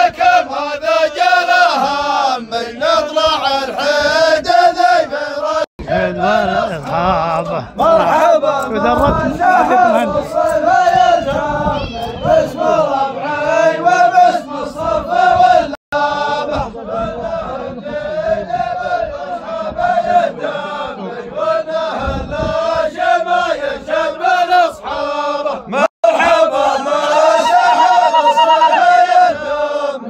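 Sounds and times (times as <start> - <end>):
men chanting: 0.0 - 30.0.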